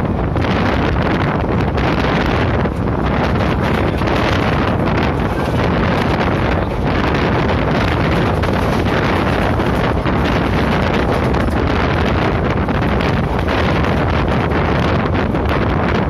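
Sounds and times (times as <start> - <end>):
train running rumble: 0.0 - 16.0
wind buffeting microphone: 0.0 - 16.0.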